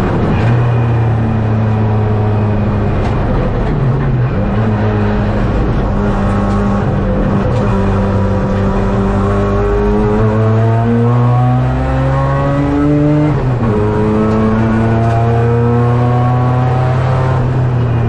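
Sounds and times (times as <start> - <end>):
race car engine: 0.0 - 18.0
tyre and road noise: 0.0 - 18.0.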